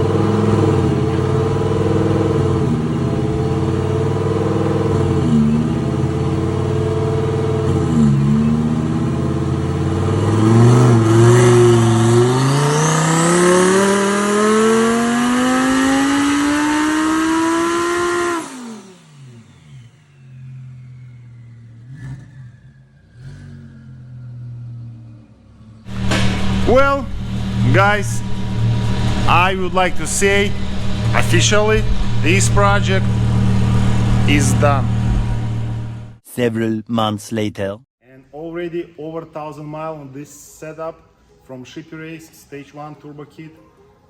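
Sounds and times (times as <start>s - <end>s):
car engine accelerating hard: 0.0s - 36.2s.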